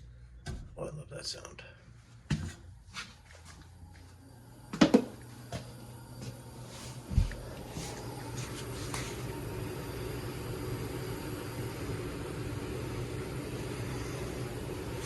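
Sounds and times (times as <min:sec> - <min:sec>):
blower fan running: 0:02.1 - 0:15.0.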